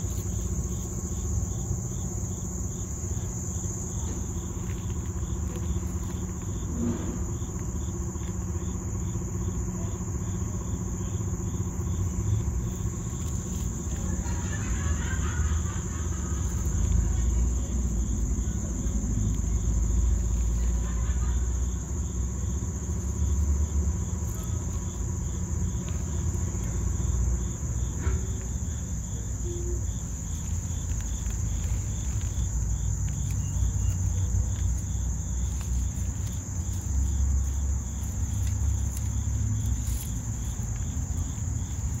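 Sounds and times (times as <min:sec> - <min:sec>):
insects chirring: 0:00.0 - 0:42.0
low uneven rumble: 0:00.0 - 0:42.0.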